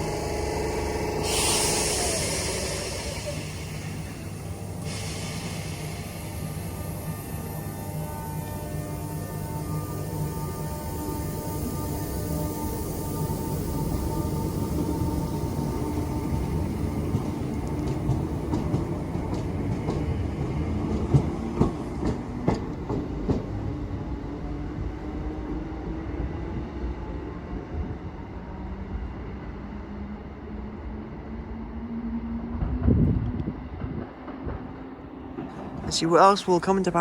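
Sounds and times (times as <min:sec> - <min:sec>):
train running on track: 0:00.0 - 0:37.0.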